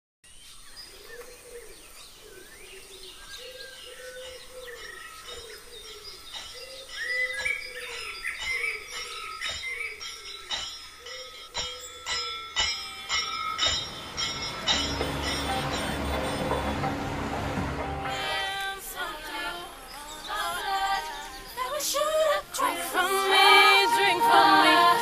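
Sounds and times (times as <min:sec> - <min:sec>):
birds chirping: 0:00.3 - 0:25.0.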